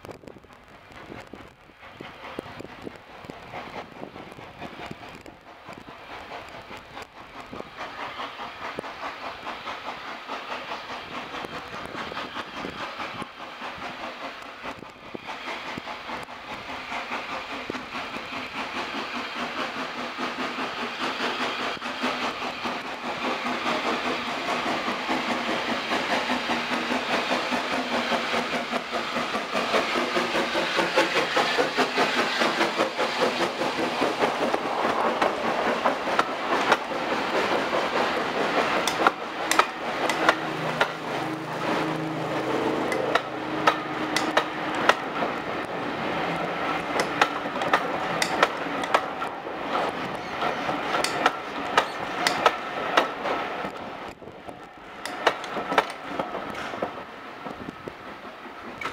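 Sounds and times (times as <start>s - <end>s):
steam locomotive chuffing: 0.9s - 58.9s.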